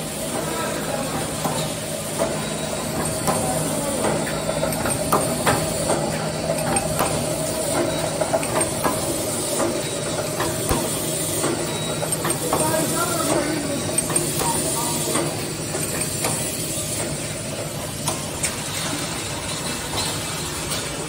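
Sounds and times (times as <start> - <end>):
welding machine hum: 0.0 - 21.0
sharp mechanical clicks and clacks: 1.1 - 21.0.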